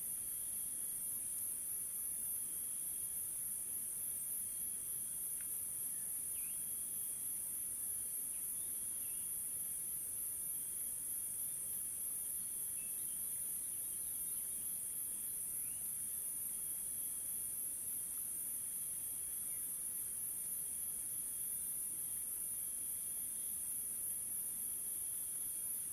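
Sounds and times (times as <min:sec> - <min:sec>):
insect chorus trilling: 0:00.1 - 0:25.9.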